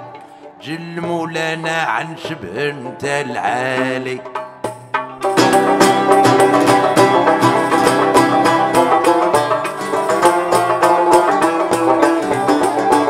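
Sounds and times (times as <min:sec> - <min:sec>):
oud plucked notes: 0:00.0 - 0:13.0.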